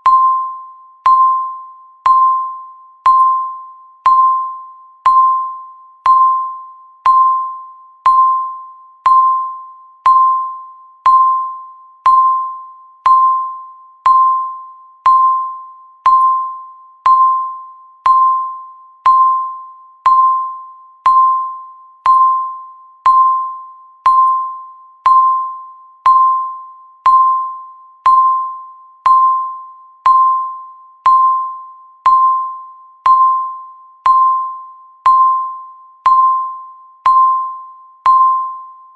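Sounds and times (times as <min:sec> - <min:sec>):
countdown timer beeping: 0:00.0 - 0:38.8.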